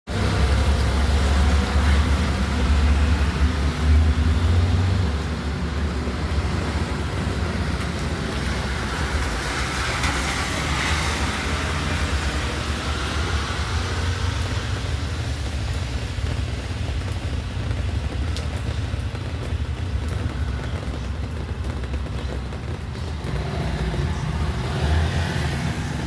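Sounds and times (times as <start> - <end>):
heavy low rumble: 0.1 - 26.0
light rain: 0.1 - 26.0.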